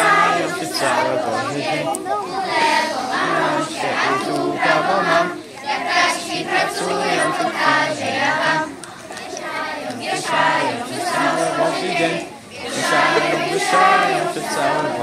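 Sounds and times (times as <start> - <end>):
children singing in chorus: 0.0 - 15.0.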